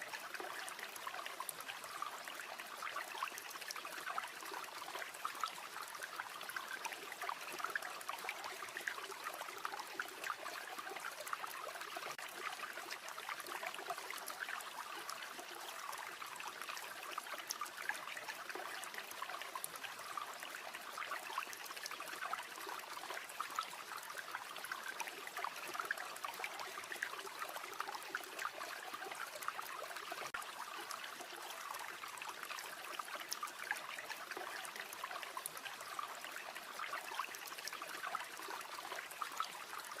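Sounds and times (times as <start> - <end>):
river water babbling: 0.0 - 40.0.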